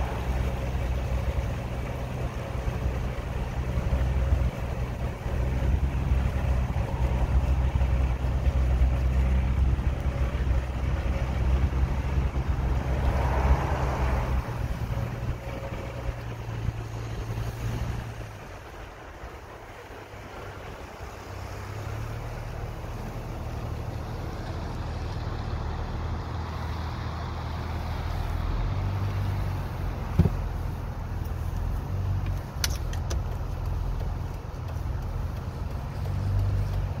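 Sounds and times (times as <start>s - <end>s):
car engine hum: 0.0s - 37.0s
tyre noise on wet pavement: 0.0s - 37.0s.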